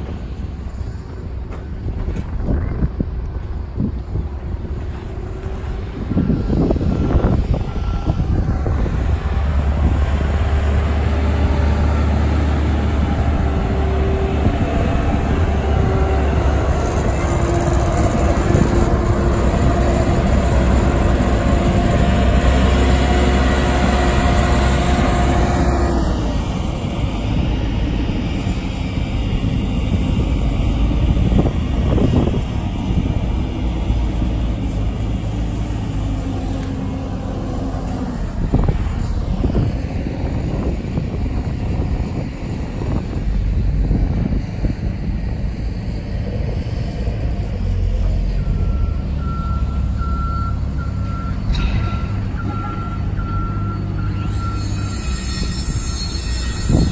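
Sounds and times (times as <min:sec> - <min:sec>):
wind on microphone: 0:00.0 - 0:37.0, 0:37.8 - 0:48.0, 0:55.4 - 0:56.9.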